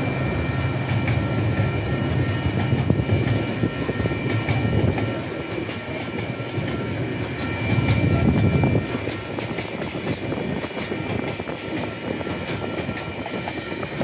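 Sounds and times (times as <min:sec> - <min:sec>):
steel wheels rumbling on rails: 0:00.0 - 0:14.0.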